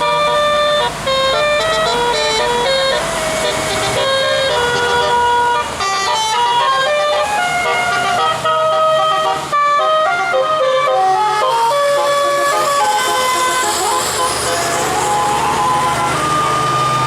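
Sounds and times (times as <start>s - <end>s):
bus horn playing a fast tune: 0.0s - 17.0s.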